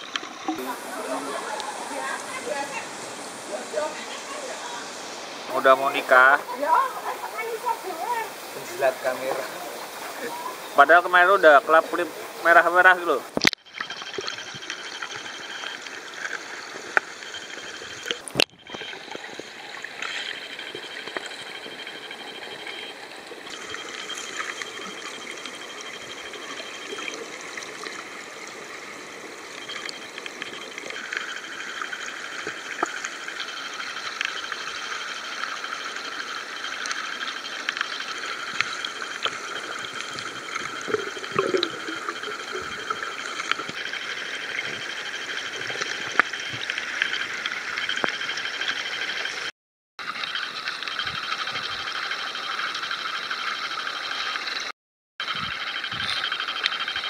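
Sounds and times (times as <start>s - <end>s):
water rushing underwater: 0.0s - 54.7s.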